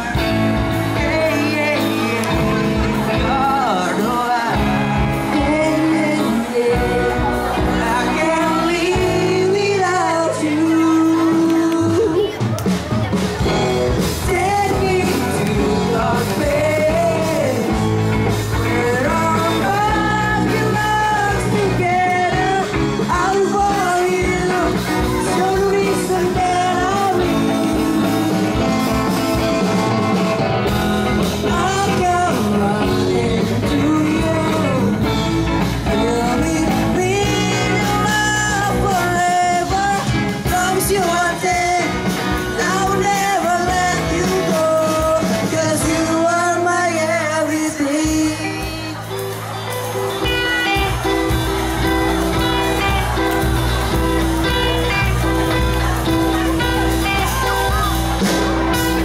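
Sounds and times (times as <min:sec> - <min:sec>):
drums: 0:00.0 - 0:59.0
electric guitar: 0:00.0 - 0:59.0
keyboard: 0:00.0 - 0:59.0
person singing: 0:00.0 - 0:59.0.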